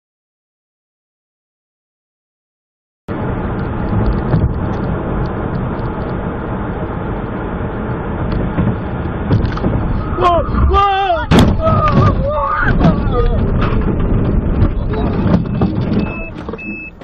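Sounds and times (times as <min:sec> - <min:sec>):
car road and engine noise: 0:03.1 - 0:17.0.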